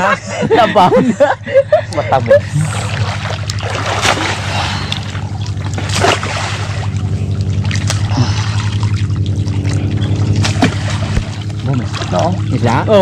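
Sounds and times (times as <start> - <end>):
steady low hum: 0.0 - 13.0
creek water sloshing and splashing: 2.0 - 13.0.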